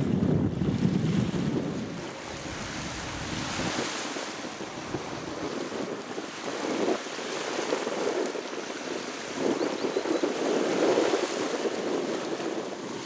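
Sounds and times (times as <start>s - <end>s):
small waves splashing: 0.0s - 13.0s
wind buffeting microphone: 0.0s - 13.0s.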